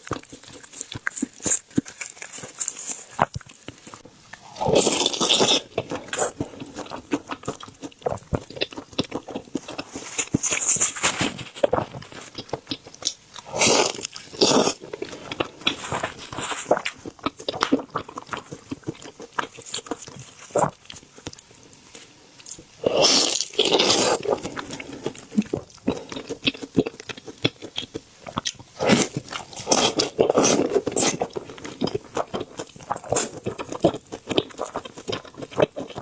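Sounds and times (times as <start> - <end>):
wet chewing and lip smacks: 0.0 - 4.5, 5.1 - 22.7, 23.4 - 36.0.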